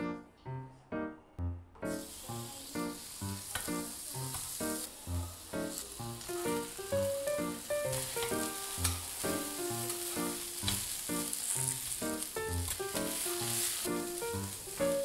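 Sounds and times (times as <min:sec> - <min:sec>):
background music: 0:00.0 - 0:15.0
food sizzling on a griddle: 0:01.9 - 0:15.0.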